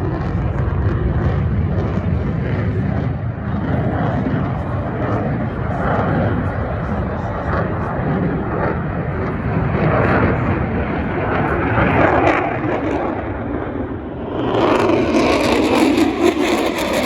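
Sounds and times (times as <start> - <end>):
airplane engine rushing: 0.0 - 17.0.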